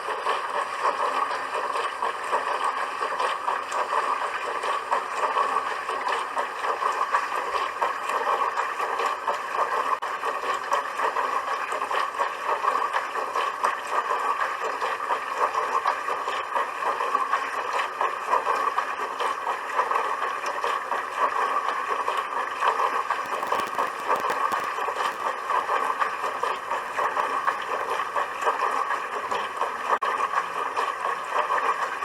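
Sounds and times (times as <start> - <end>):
dishwasher water churning: 0.0 - 32.0.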